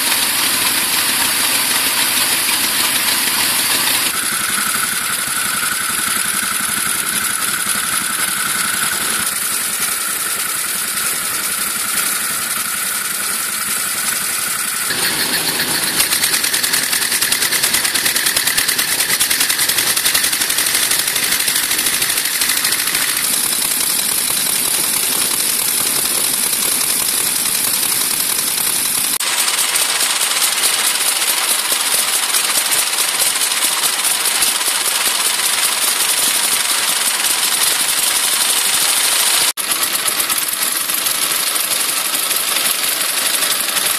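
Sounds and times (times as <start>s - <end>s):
motorcycle engines idling: 0.0s - 43.9s.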